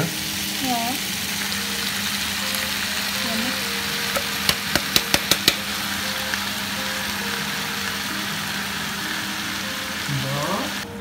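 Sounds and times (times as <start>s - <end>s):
food sizzling in a pan: 0.0s - 10.9s.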